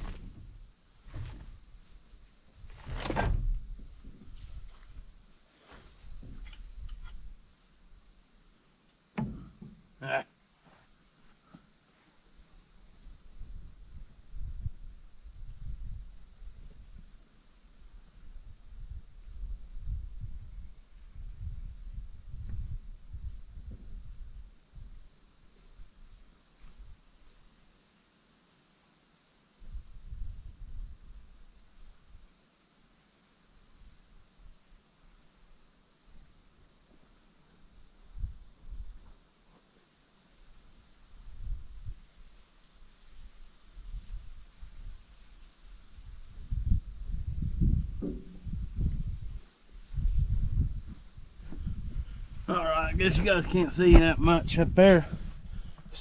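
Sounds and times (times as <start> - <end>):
insects trilling: 0.0 - 54.4.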